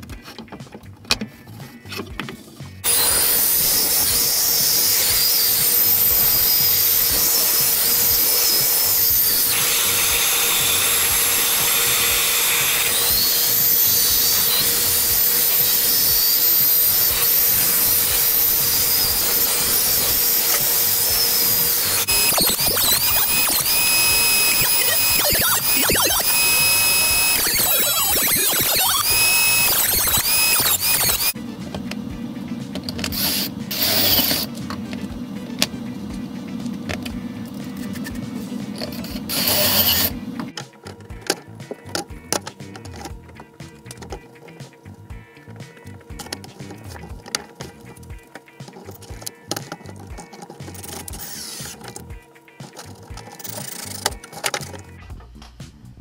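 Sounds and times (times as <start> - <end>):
band saw cutting wood: 2.6 - 44.8, 45.4 - 55.1.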